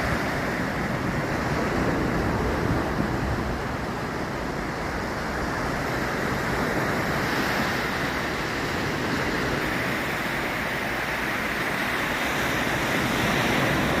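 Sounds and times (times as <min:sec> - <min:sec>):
waves washing on beach: 0:00.0 - 0:14.0.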